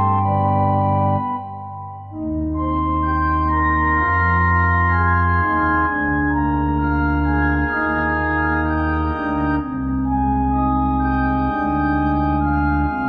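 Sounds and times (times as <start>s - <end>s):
organ playing slow chords: 0.0s - 13.0s.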